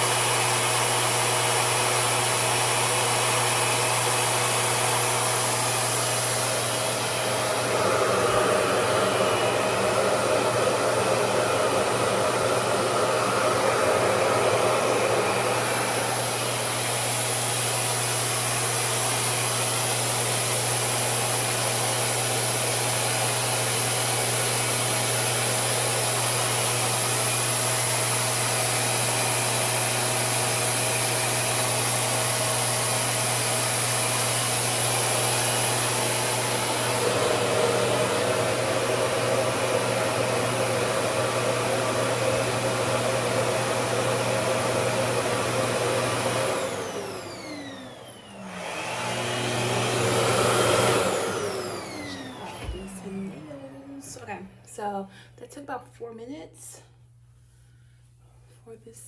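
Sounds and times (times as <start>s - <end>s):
blow dryer motor humming: 0.0s - 55.4s.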